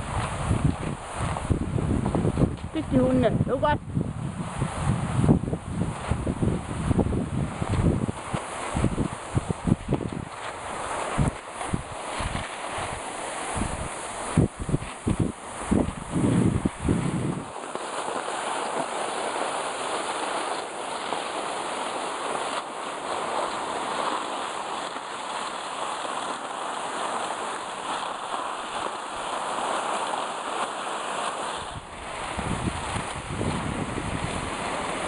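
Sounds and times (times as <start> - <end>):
skis sliding over snow: 0.0 - 3.7, 4.5 - 35.0
wind buffeting microphone: 0.0 - 30.2, 31.5 - 35.0.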